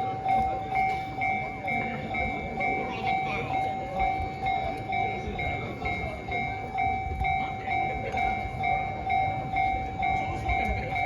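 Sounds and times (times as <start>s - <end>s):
level-crossing warning bell: 0.0s - 11.0s.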